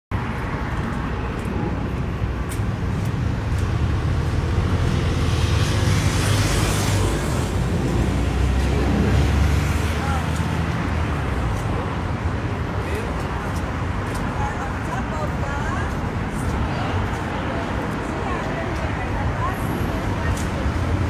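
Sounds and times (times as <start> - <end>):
road traffic rumble: 0.1 - 21.0.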